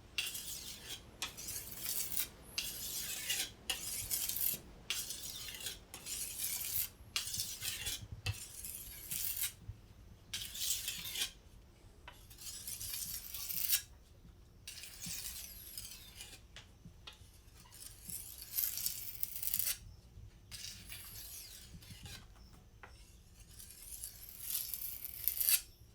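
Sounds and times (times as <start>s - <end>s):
knife scraping on sharpener: 0.2s - 9.6s, 10.3s - 11.4s, 12.2s - 13.9s, 14.7s - 16.4s, 17.2s - 19.9s, 20.5s - 25.7s.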